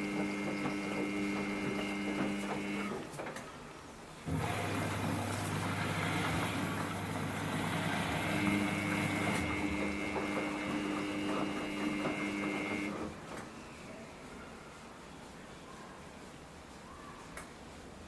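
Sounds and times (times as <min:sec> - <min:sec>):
washing machine hum: 0:00.0 - 0:15.5
washing machine spin whine: 0:00.0 - 0:18.0.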